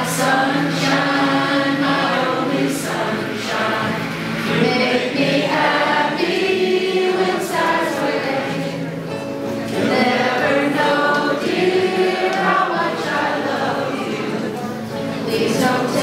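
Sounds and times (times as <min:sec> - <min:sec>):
group of people singing: 0:00.0 - 0:16.0.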